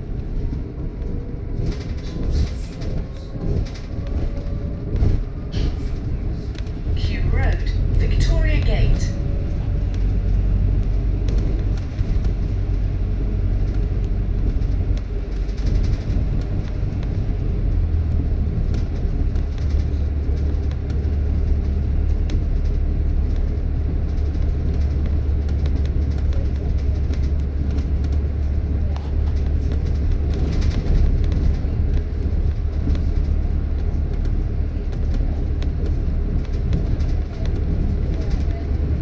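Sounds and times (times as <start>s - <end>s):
bus engine and road rumble: 0.0s - 39.0s
light clicks and rattles: 0.1s - 39.0s.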